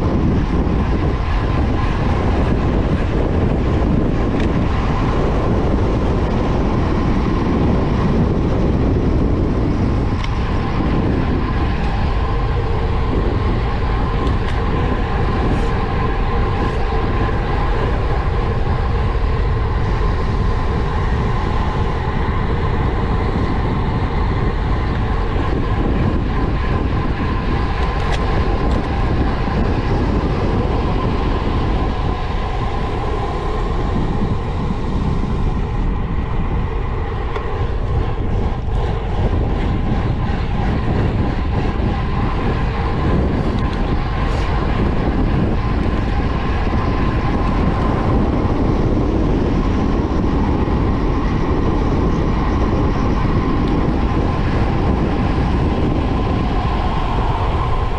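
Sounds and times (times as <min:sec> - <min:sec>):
bicycle road noise: 0:00.0 - 0:57.9
wind rushing on microphone: 0:00.0 - 0:57.9.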